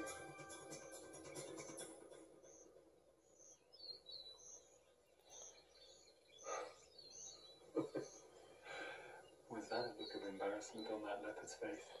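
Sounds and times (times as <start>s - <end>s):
birds chirping: 0.0s - 12.0s
warbling bird calls: 0.0s - 12.0s.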